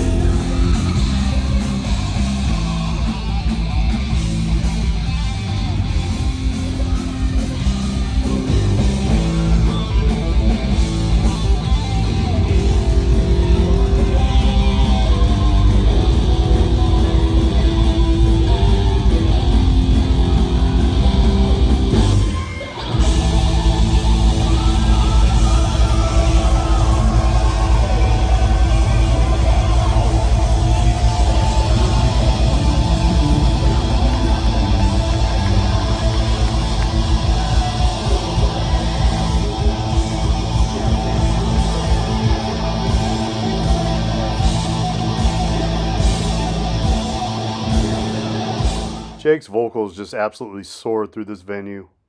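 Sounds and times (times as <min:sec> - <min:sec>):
electric guitars sustained notes: 0:00.0 - 0:49.2
live heavy metal band: 0:00.0 - 0:49.2.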